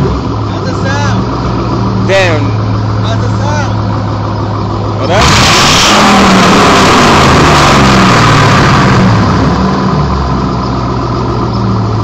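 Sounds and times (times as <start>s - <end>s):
loud engine exhaust drone: 0.0s - 12.0s.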